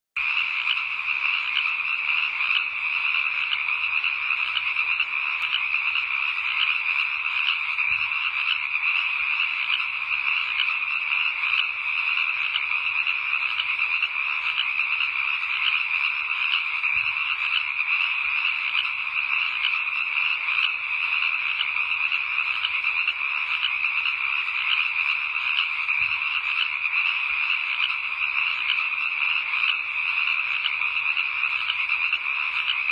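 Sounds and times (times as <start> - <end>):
many frogs croaking: 0.2 - 32.9.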